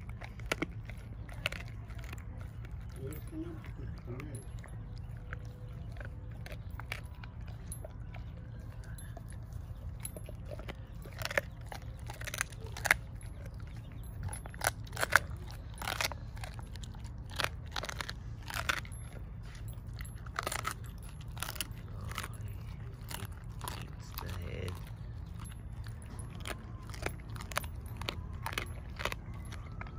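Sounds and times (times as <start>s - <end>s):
dog crunching bones: 0.0s - 29.9s.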